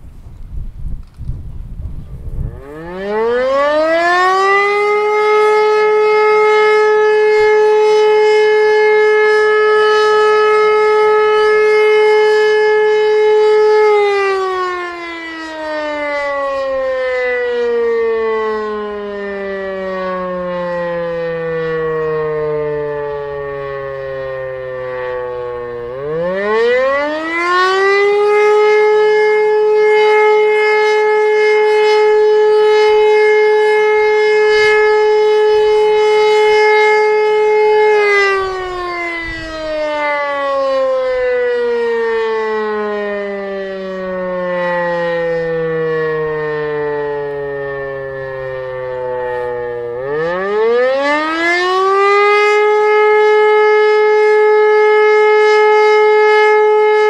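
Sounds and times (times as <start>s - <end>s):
electromechanical siren wailing: 1.4s - 57.0s.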